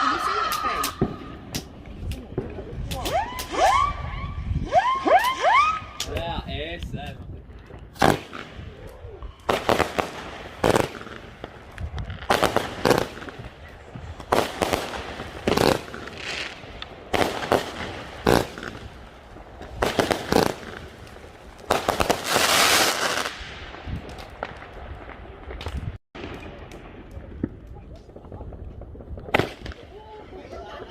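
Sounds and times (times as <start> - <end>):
fireworks banging: 0.0 - 6.4, 7.0 - 30.9.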